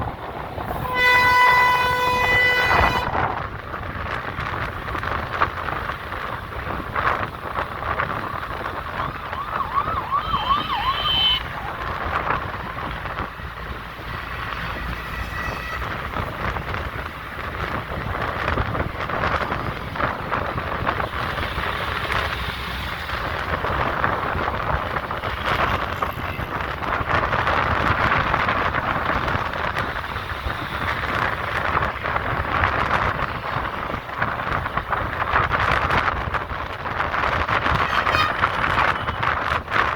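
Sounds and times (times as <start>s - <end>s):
busy highway traffic: 0.0s - 39.9s.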